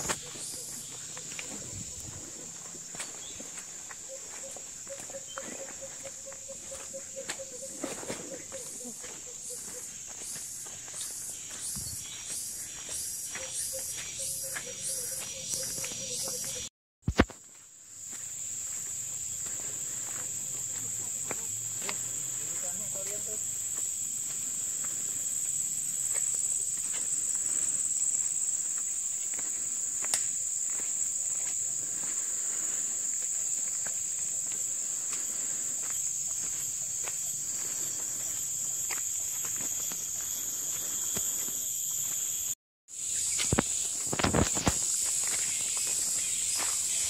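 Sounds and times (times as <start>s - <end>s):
footsteps on dirt trail: 0.0s - 47.0s
forest insects droning: 0.0s - 47.0s.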